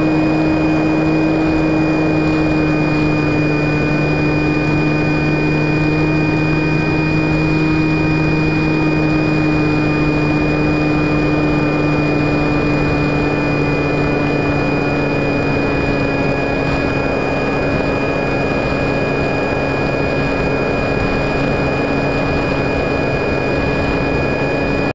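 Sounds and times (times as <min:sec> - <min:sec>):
model plane motor droning: 0:00.0 - 0:24.9
wind noise: 0:00.0 - 0:24.9.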